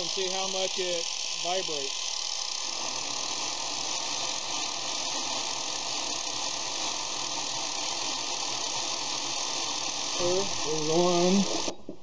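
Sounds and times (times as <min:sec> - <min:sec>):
angle grinder whirring: 0:00.0 - 0:12.0.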